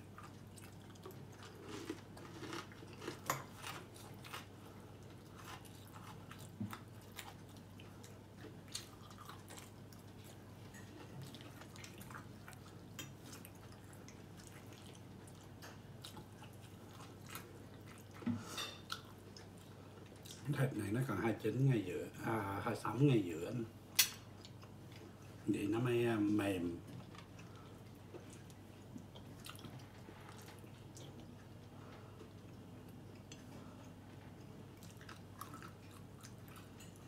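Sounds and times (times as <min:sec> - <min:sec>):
person chewing food: 0:00.0 - 0:20.5, 0:24.2 - 0:25.4, 0:26.9 - 0:37.0
low room hum: 0:00.0 - 0:37.0.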